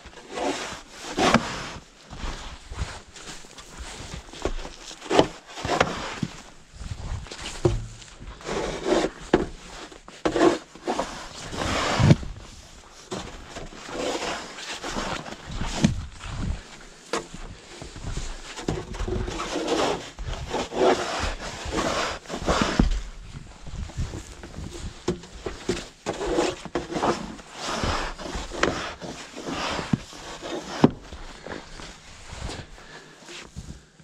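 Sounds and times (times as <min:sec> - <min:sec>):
shovel scraping snow on wood: 0:00.1 - 0:23.1, 0:23.7 - 0:33.6
footsteps crunching in snow: 0:00.4 - 0:10.1, 0:10.8 - 0:33.9.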